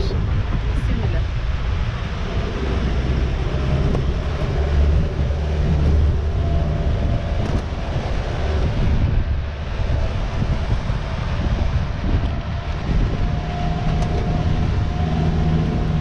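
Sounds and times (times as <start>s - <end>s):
vehicle rumble: 0.0s - 16.0s
wind noise on microphone: 0.0s - 16.0s.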